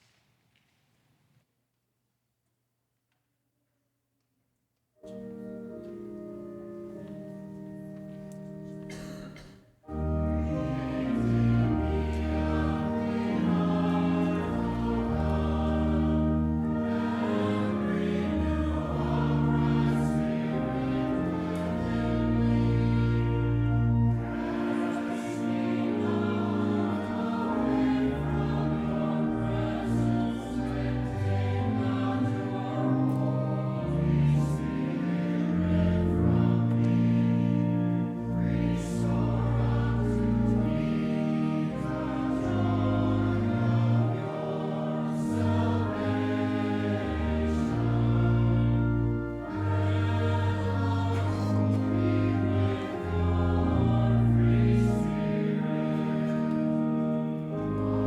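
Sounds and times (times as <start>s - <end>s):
held instrumental accompaniment: 5.0s - 58.0s
congregation singing a hymn: 5.1s - 58.0s.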